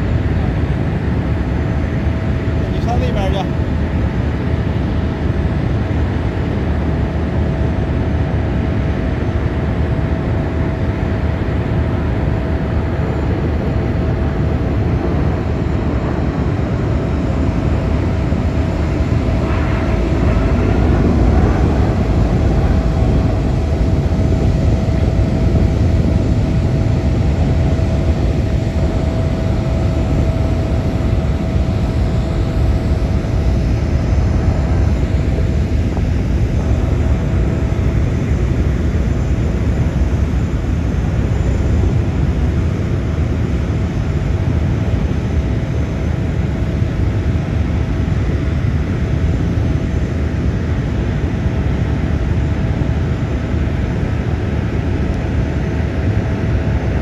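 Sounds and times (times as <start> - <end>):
jet airliner flying past: 0.0 - 57.0.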